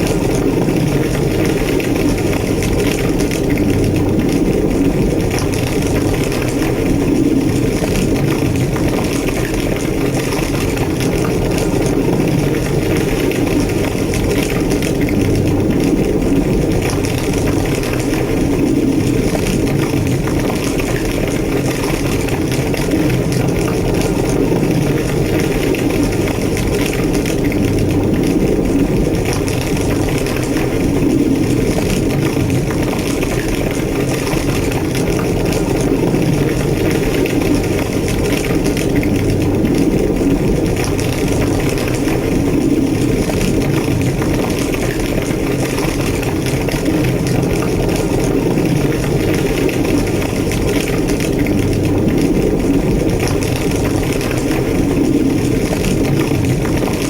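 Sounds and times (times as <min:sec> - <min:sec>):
fine crackling of fire: 0:00.0 - 0:57.0
large fire roaring: 0:00.0 - 0:57.0.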